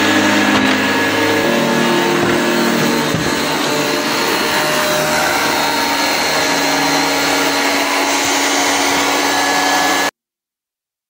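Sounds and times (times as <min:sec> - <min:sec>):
vacuum cleaner running: 0:00.0 - 0:10.1.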